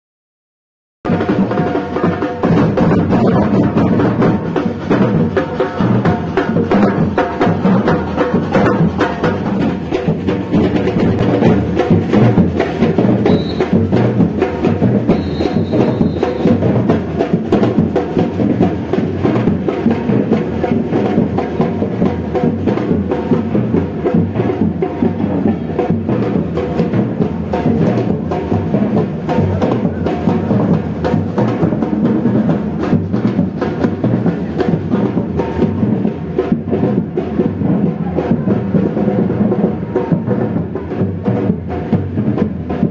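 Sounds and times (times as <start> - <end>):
drums with sharp clacking strikes: 1.1 - 42.9
fast percussion music: 1.1 - 42.9.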